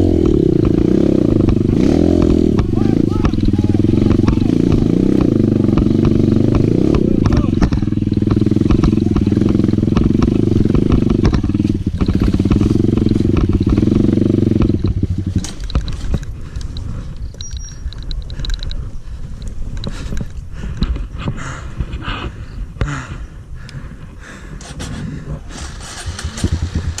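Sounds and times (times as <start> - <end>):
dirt bike engine running: 0.0 - 27.0
clicks and rattles: 1.4 - 21.1, 24.6 - 27.0.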